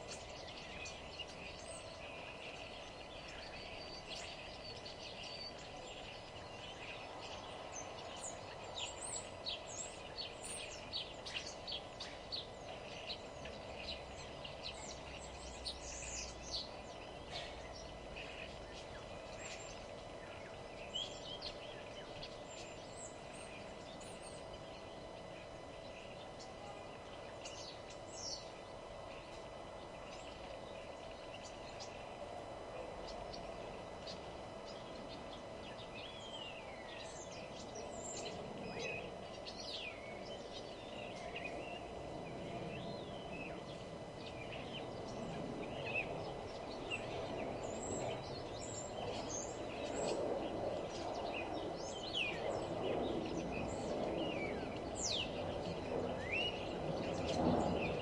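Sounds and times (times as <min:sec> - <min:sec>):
background hum and hiss: 0:00.0 - 0:58.0
songbirds singing: 0:00.0 - 0:58.0.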